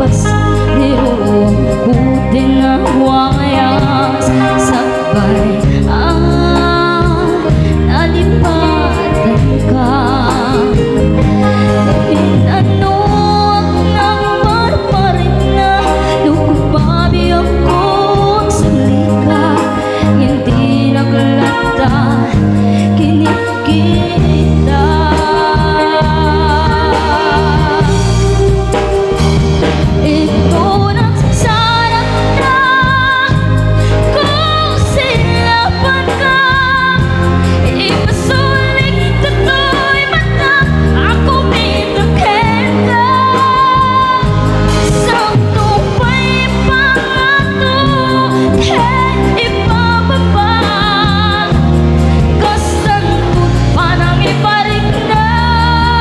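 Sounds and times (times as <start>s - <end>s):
drums: 0.0s - 56.0s
electric bass: 0.0s - 56.0s
guitar: 0.0s - 56.0s
person singing: 0.0s - 56.0s.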